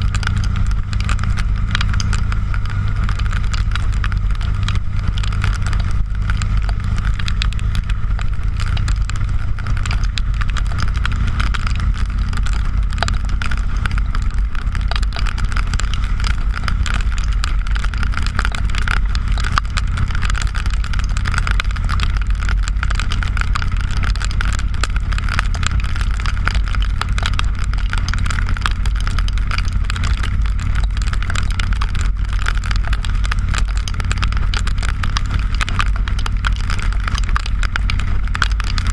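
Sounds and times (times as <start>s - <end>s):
motorcycle engine cruising: 0.0s - 38.9s
rain crackling on camera: 0.0s - 38.9s
wind on camera: 0.0s - 38.9s.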